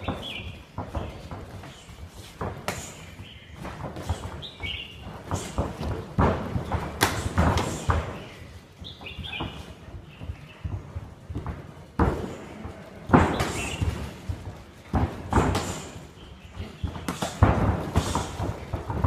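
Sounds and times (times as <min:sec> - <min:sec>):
punches and kicks thudding on pads: 0:00.0 - 0:19.0.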